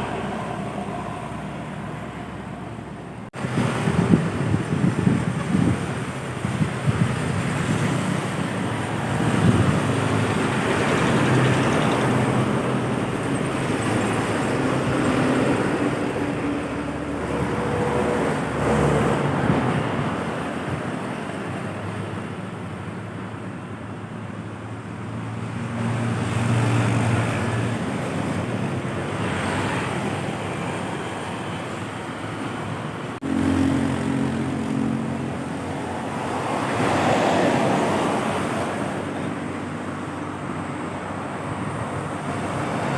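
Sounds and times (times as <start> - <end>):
heavy trucks and buses passing: 0.0 - 42.9.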